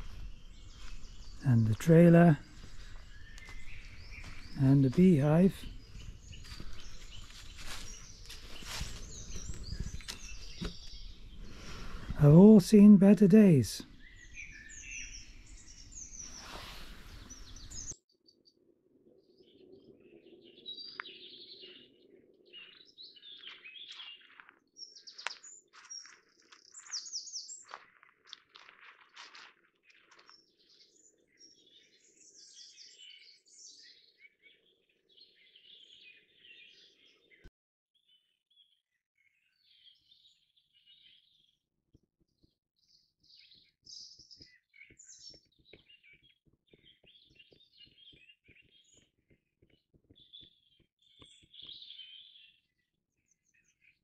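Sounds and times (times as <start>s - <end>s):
birds singing and calling: 0.0s - 18.0s, 19.1s - 41.6s, 42.2s - 54.0s.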